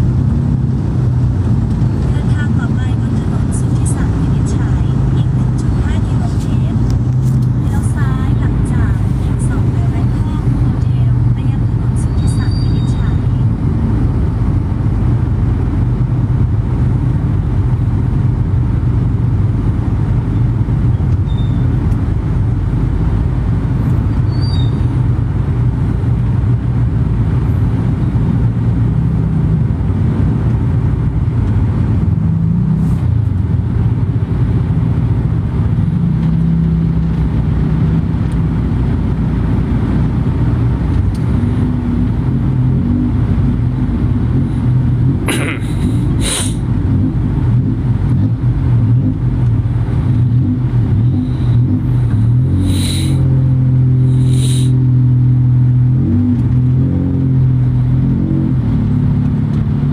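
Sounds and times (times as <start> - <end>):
road vehicle rumble: 0.0 - 59.9.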